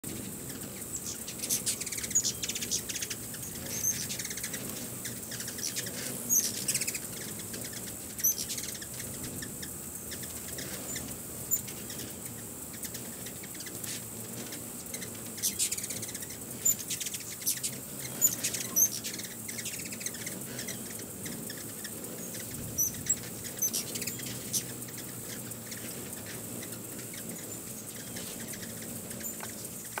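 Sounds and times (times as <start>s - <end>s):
hummingbirds chipping and twittering: 0.0s - 30.0s.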